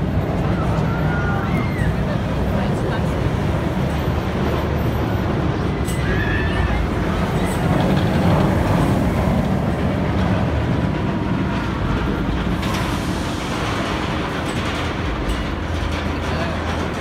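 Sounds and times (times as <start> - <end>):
roller coaster rumbling and clattering: 0.0 - 17.0.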